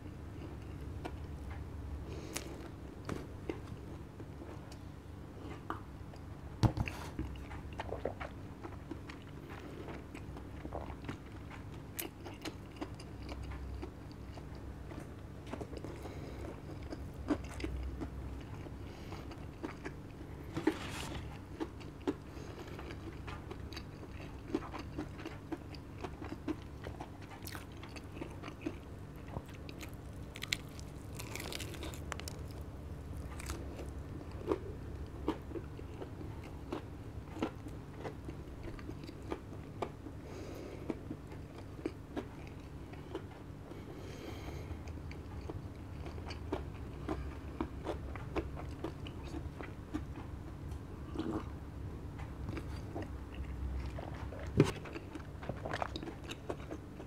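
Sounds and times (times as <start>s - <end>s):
faint low hum: 0.0s - 57.0s
chewing and crunching: 0.2s - 57.0s.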